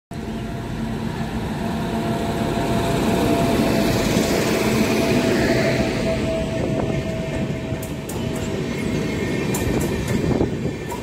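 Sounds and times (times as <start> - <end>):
locomotive whine: 0.2 - 11.0
train wheels rumbling: 0.2 - 11.0.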